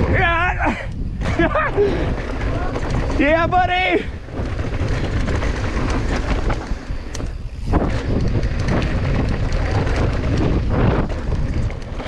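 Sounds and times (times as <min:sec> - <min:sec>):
bike clicks and rattles: 0:00.0 - 0:12.0
bike tyres rumbling on dirt: 0:00.0 - 0:12.0
wind buffeting microphone: 0:00.0 - 0:12.0.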